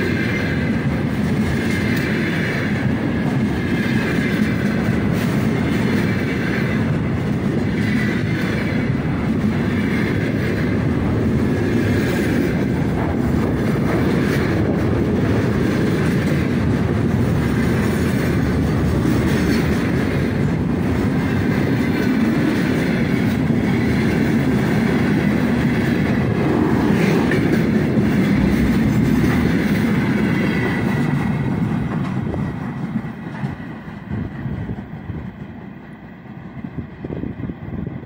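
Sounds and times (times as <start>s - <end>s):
freight train passing: 0.0s - 38.0s.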